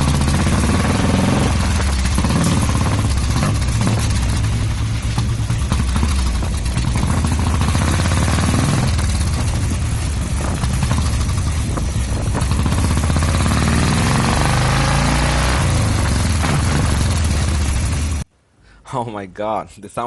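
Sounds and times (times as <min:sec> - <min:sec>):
motorcycle exhaust thumping: 0:00.0 - 0:18.3.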